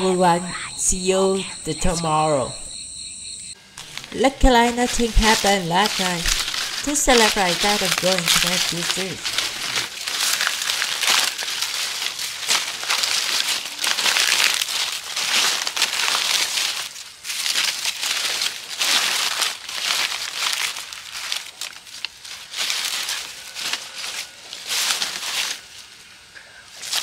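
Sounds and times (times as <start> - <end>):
dry leaves crackling: 3.6 - 27.0.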